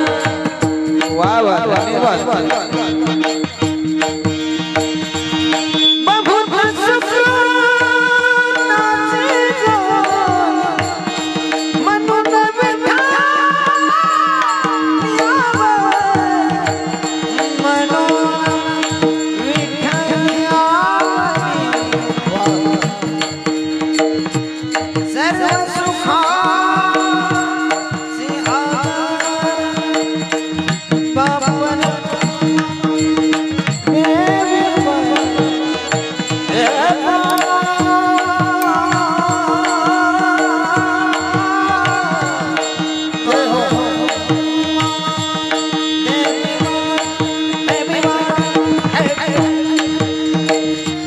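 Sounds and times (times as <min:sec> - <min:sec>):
man singing devotional song: 0:00.0 - 0:51.0.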